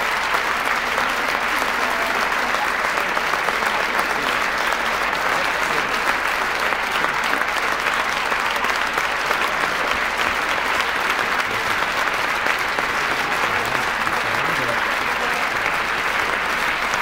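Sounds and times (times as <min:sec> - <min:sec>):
audience clapping: 0:00.0 - 0:17.0.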